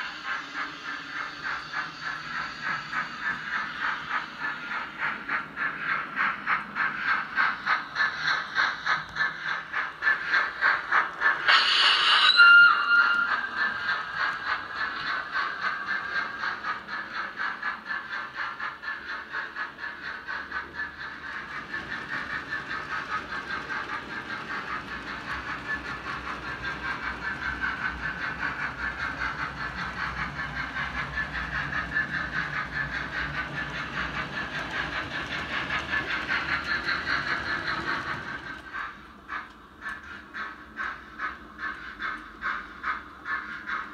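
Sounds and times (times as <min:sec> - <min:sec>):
model trains running: 0:00.0 - 0:43.9.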